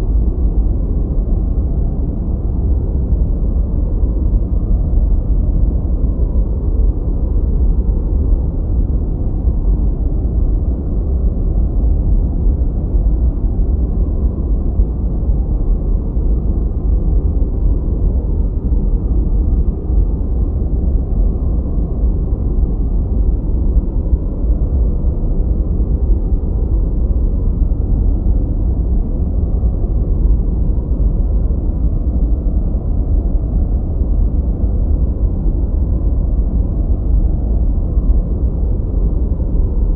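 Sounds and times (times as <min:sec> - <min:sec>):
deep rumbling generated noise: 0:00.0 - 0:39.9.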